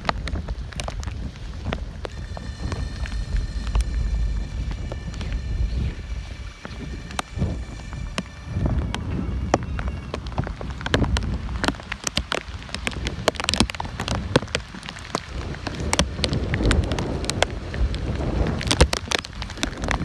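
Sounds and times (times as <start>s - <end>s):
raindrops ticking on microphone: 0.0s - 20.0s
wind rumbling on microphone: 0.0s - 20.0s.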